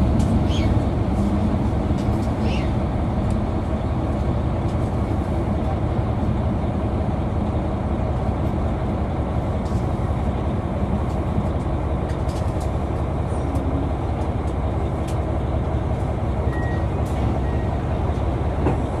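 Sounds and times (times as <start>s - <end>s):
diesel railcar rumbling: 0.0s - 19.0s.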